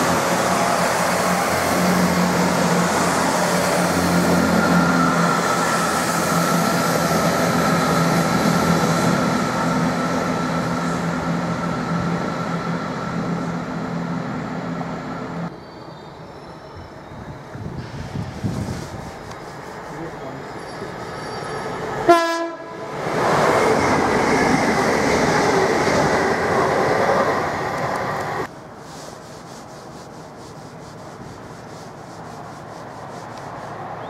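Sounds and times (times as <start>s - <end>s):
diesel train engines droning: 0.0s - 28.8s.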